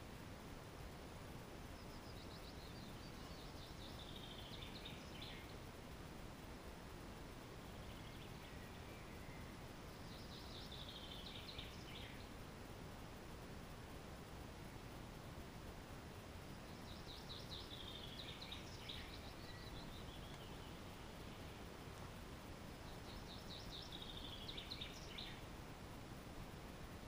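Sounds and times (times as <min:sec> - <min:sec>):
low outdoor hiss: 0:00.0 - 0:27.0
songbird singing: 0:00.0 - 0:27.0.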